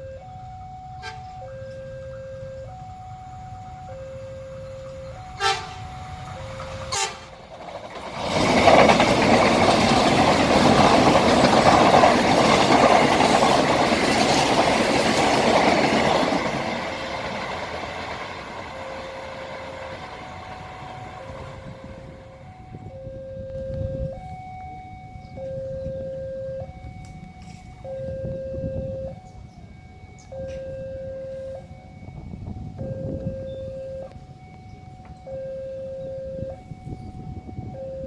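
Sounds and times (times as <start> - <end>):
train passing close by: 0.0 - 38.0.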